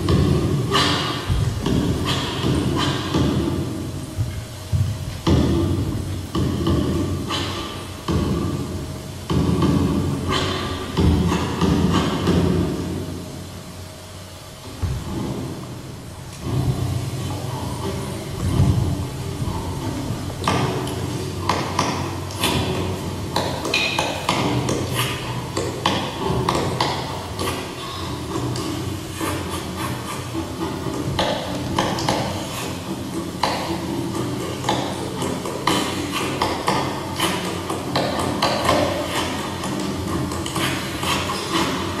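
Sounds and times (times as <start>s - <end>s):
steady low drone: 0.0s - 42.0s
steady low hum: 0.0s - 42.0s.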